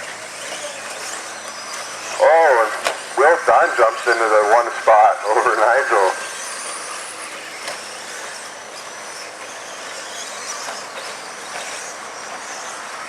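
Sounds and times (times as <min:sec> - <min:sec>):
radio-controlled trucks racing: 0:00.0 - 0:13.0.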